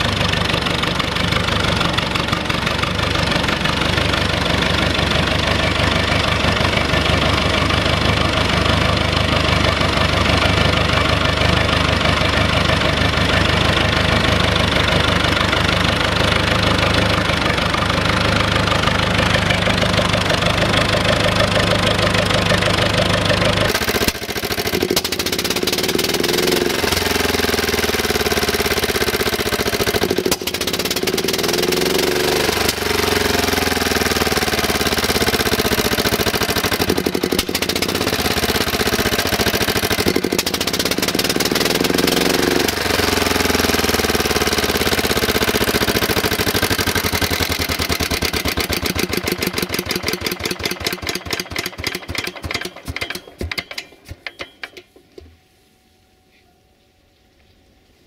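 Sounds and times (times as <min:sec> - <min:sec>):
walk-behind mower engine revving: 0:00.0 - 0:55.2
tractor diesel engine running: 0:00.0 - 0:55.4.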